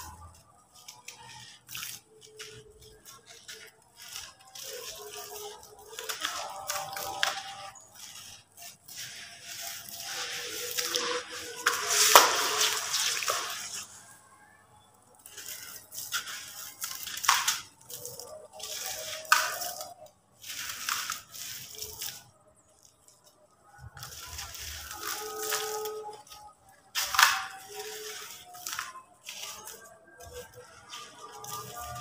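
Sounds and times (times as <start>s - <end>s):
gritty squelching of wet cement: 0.0s - 32.0s.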